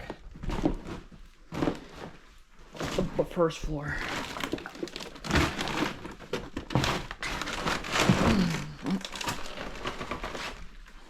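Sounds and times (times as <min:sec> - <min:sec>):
debris knocks and rustles: 0:00.0 - 0:11.0.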